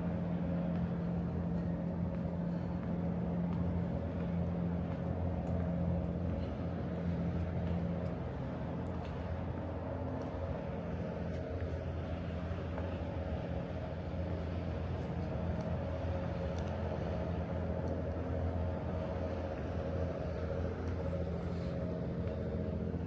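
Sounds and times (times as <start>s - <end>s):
city background noise: 0.0s - 23.0s
low mechanical hum: 0.0s - 23.0s.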